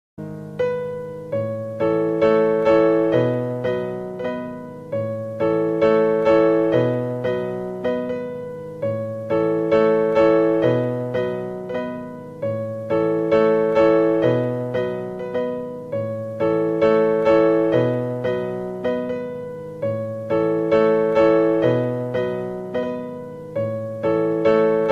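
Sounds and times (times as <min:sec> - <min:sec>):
gentle piano phrase: 0:00.2 - 0:24.9.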